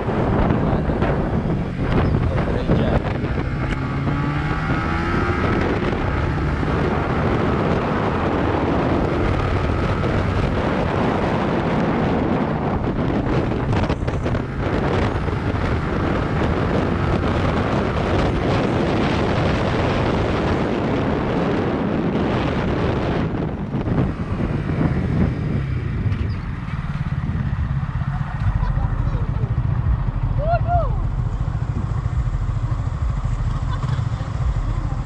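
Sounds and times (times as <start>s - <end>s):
motorcycle engine running: 0.0s - 35.0s
wind rushing across microphone: 0.0s - 35.0s.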